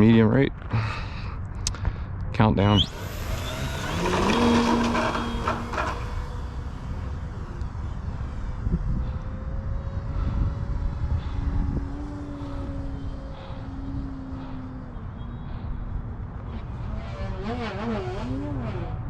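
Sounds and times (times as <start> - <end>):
model airplane motor whining: 2.7 - 19.0.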